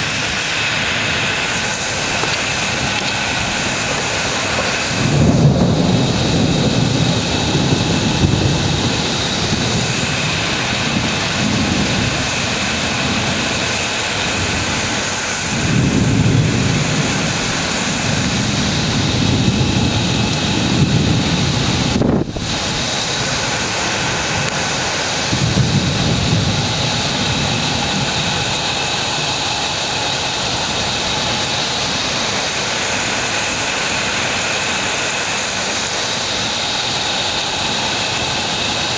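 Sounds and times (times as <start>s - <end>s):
heavy rain hissing: 0.0s - 38.9s
thunder rolling: 1.2s - 38.9s.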